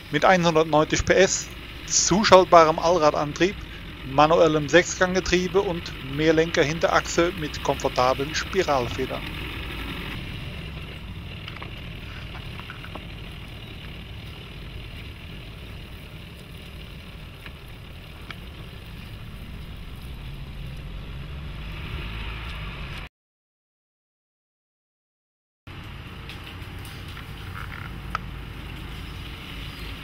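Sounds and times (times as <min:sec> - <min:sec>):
diesel engine running low: 0:00.0 - 0:23.1, 0:25.7 - 0:30.0
outdoor noise: 0:00.0 - 0:23.1, 0:25.7 - 0:30.0.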